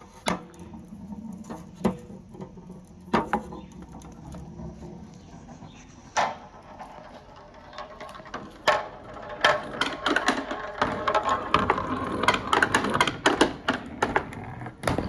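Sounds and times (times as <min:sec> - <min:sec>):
marbles clattering through plastic pipes: 0:00.0 - 0:15.0.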